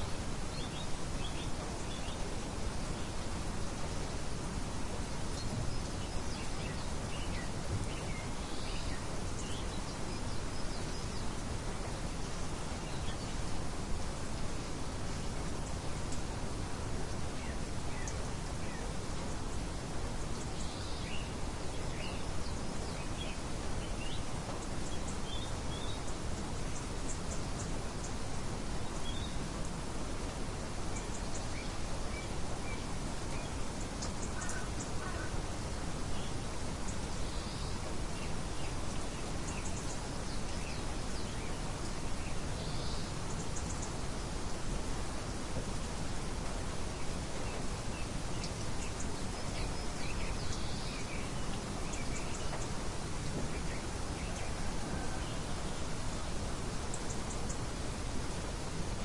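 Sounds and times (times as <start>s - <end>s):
songbirds chirping: 0.0s - 59.0s
steady rain falling: 0.0s - 59.0s.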